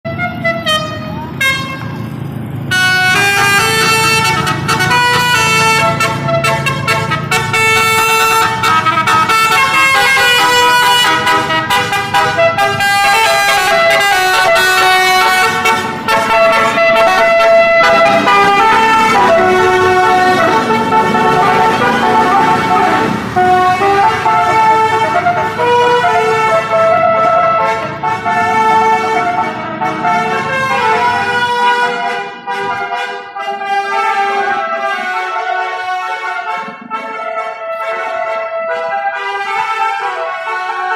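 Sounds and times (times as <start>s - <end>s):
musical bus horn playing tune: 0.0s - 2.0s, 2.7s - 40.9s.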